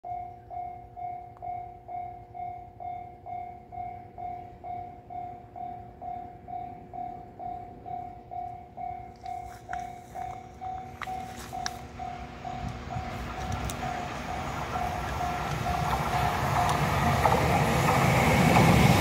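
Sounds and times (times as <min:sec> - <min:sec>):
faint oncoming freight train: 0:00.1 - 0:19.0
level-crossing warning bell: 0:00.1 - 0:19.0.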